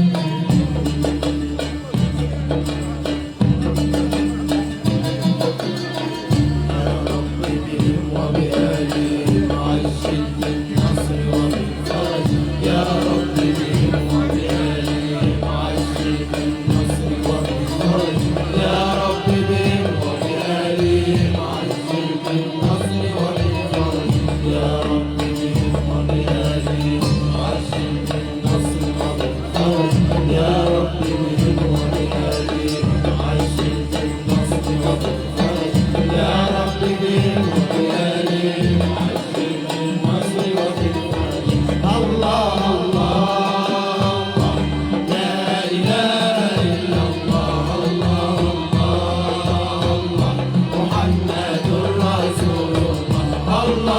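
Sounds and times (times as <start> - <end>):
heavy drum rhythm: 0.0 - 53.9
voices singing: 0.0 - 53.9.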